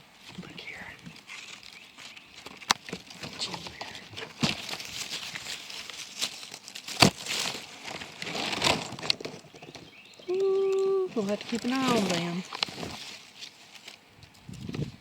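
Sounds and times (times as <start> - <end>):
leaves rustling and crinkling: 0.0 - 15.0.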